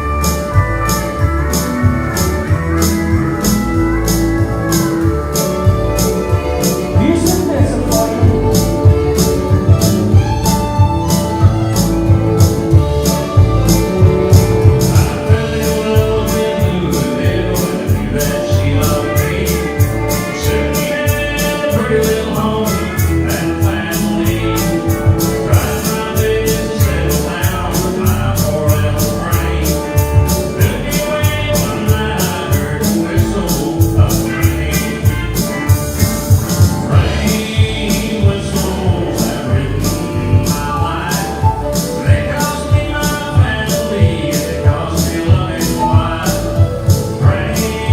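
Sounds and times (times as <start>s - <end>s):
country band playing: 0.0s - 47.9s
quick ticking beat: 0.2s - 47.9s.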